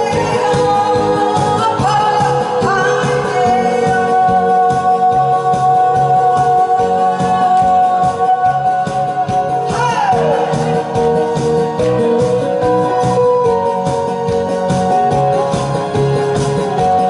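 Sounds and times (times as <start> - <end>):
person singing: 0.0 - 15.3
band backing: 0.0 - 17.0.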